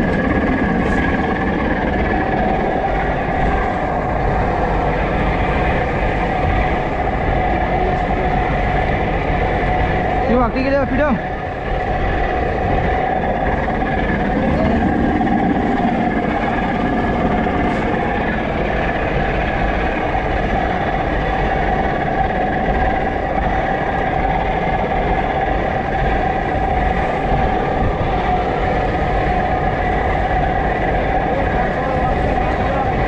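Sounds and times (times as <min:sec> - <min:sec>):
boat diesel engine droning: 0:00.0 - 0:33.0.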